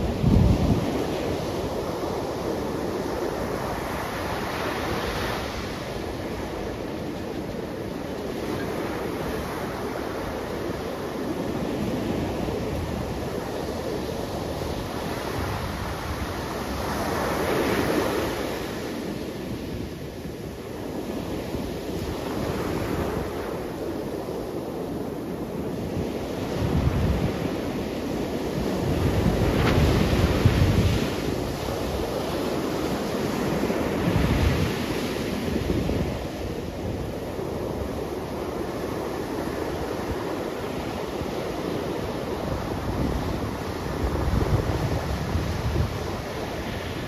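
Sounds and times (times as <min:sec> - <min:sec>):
ocean surf breaking on beach: 0:00.0 - 0:47.0
wind noise on microphone: 0:00.0 - 0:47.0.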